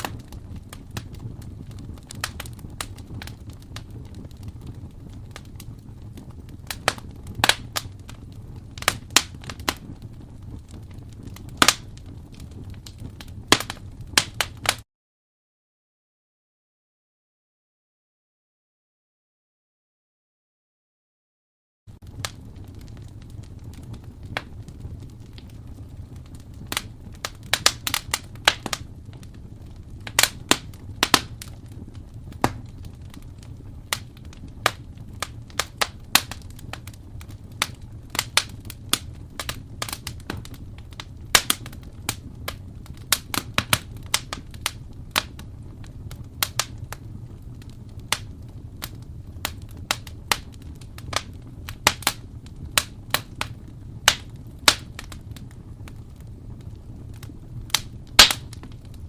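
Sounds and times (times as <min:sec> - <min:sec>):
wood fire crackling: 0:00.0 - 0:14.8, 0:21.9 - 0:59.0.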